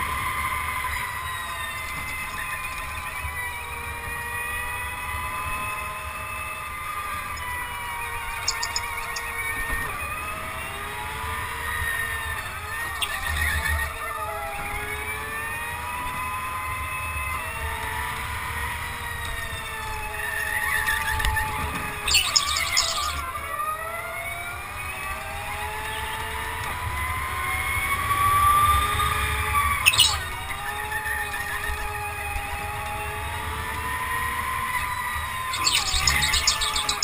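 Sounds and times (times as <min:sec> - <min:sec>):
go-kart motor whining: 0:00.0 - 0:37.0
road and tyre noise: 0:00.0 - 0:37.0.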